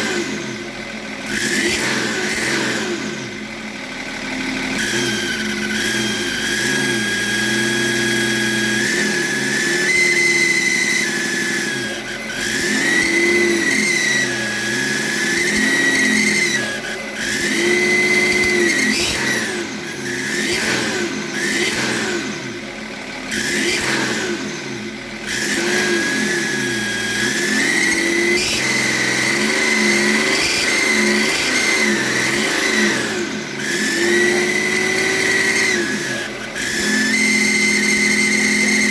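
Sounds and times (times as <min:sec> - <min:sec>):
diesel engine revving: 0:00.0 - 0:38.9
turbocharger whine: 0:00.0 - 0:38.9.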